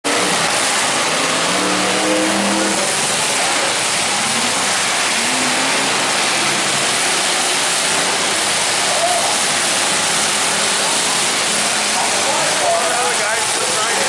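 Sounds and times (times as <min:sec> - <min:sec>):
car engines revving: 0:00.0 - 0:14.0
loud steady rush of noise: 0:00.0 - 0:14.0.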